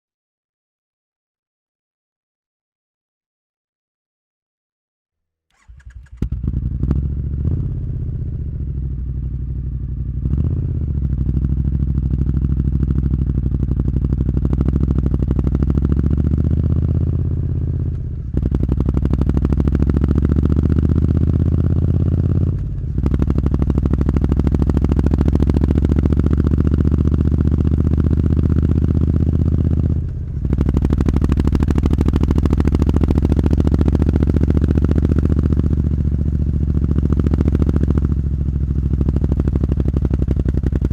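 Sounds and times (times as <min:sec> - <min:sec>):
motorcycle engine starting and revving: 0:05.5 - 0:40.9.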